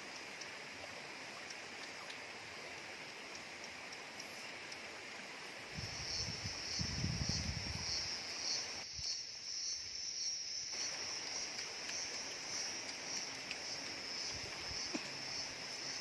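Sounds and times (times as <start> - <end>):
insects chirring: 3.1 - 16.0.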